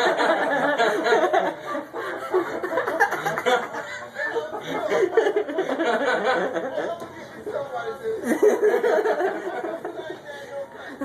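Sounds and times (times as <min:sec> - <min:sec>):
low talk: 0:00.0 - 0:11.0
people chuckling and snickering: 0:00.0 - 0:11.0.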